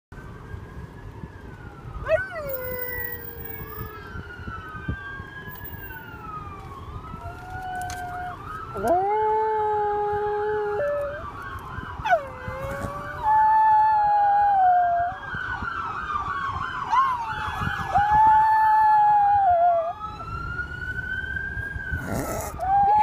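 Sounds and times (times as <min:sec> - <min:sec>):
wailing siren: 0:00.1 - 0:23.0.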